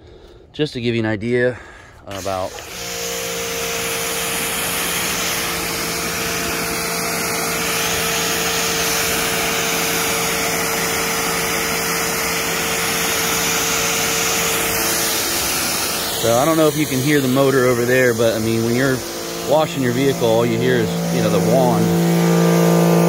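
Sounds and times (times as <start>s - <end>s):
electric pump motor hum: 2.0s - 23.0s
pressure washer spray hissing: 2.1s - 23.0s.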